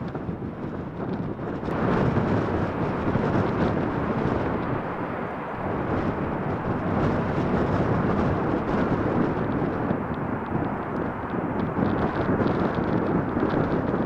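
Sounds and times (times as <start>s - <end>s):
jet engine rumble: 0.0s - 14.0s
wind buffeting microphone: 0.0s - 14.0s.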